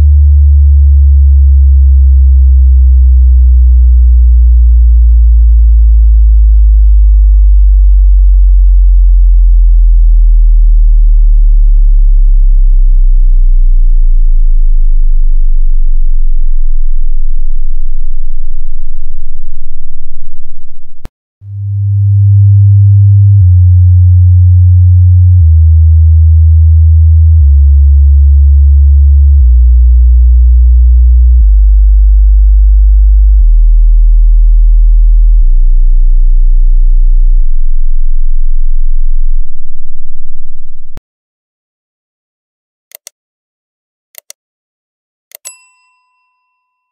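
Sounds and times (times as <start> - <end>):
low sine wave sweep: 0.0 - 41.0
stepped descending sine tones: 0.0 - 41.0.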